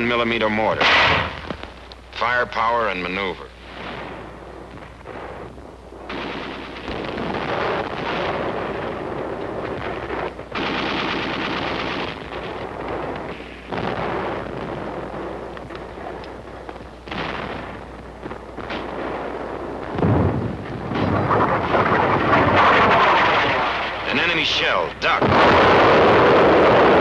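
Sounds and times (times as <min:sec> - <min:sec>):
machine-gun fire: 0:00.7 - 0:01.8, 0:03.7 - 0:27.0.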